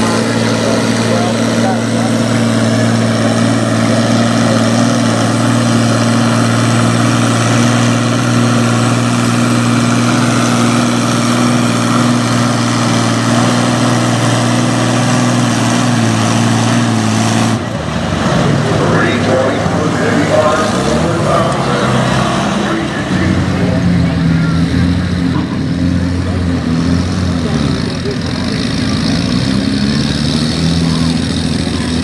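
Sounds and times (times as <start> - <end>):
tractor engine running loud: 0.0 - 32.0.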